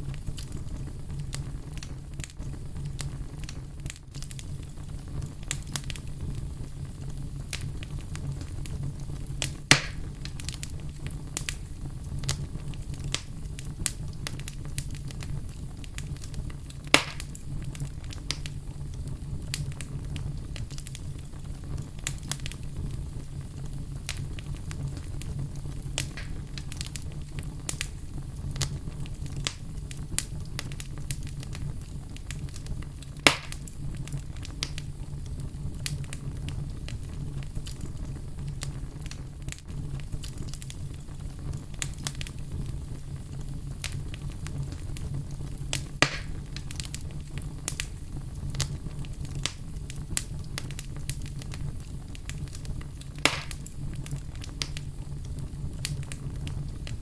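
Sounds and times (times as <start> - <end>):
fire crackling: 0.0 - 57.0
loud pops of fire: 0.0 - 57.0.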